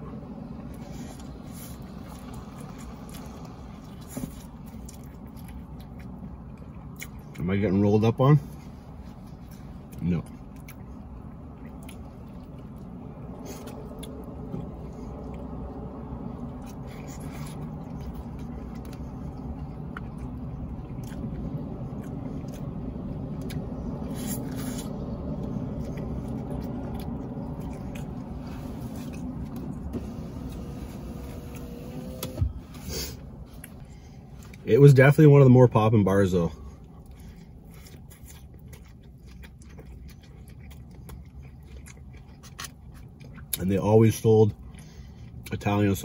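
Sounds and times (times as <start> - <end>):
low vehicle rumble: 0.0 - 46.0
chewing: 0.6 - 7.8, 8.4 - 29.9, 36.5 - 46.0.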